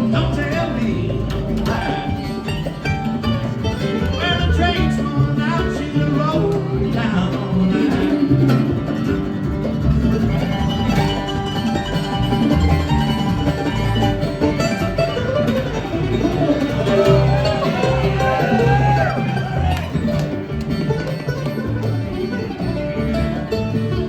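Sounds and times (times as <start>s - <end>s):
bluegrass string band playing: 0.0s - 24.0s.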